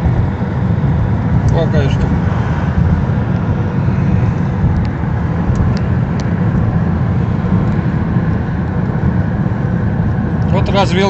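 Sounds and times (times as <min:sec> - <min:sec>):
car driving at highway speed: 0:00.0 - 0:11.0.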